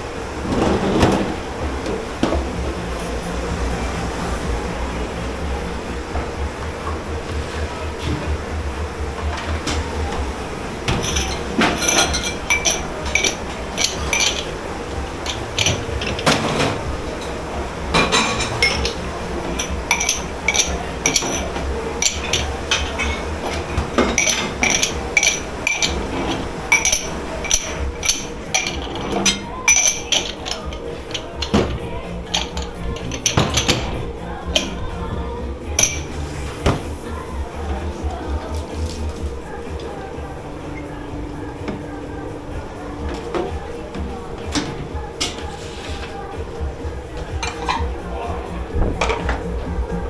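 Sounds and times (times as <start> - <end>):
crockery and cutlery clattering: 0.0 - 4.5, 5.6 - 50.0
low machine hum: 0.0 - 50.0.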